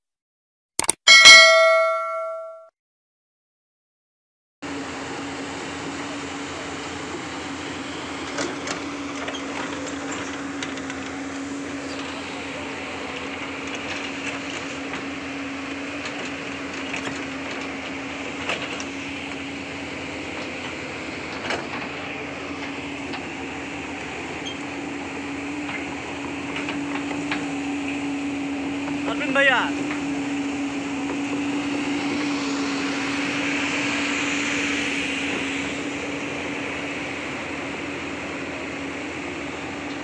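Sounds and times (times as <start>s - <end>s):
diesel engine running: 4.7s - 40.0s.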